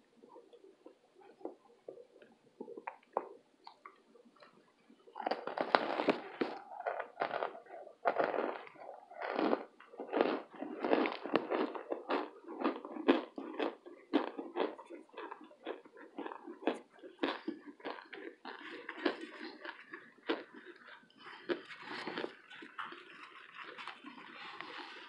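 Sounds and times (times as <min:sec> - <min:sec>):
crunching and chewing: 0:00.1 - 0:25.0.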